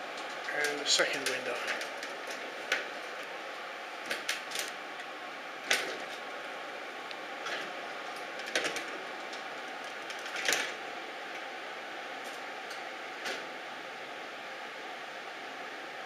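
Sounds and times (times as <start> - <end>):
room tone hiss: 0.0 - 16.0.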